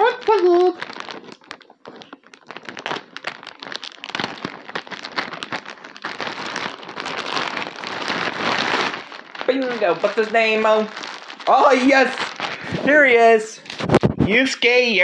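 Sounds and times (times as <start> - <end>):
packaging crinkling: 0.0 - 14.1.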